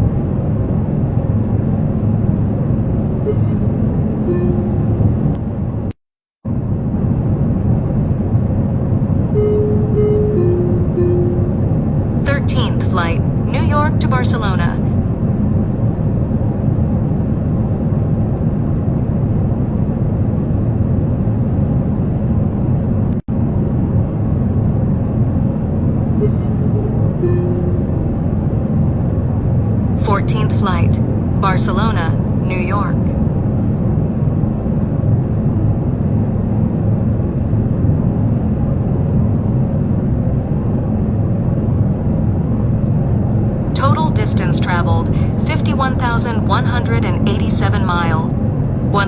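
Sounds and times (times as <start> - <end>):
airliner rumble: 0.0 - 49.0.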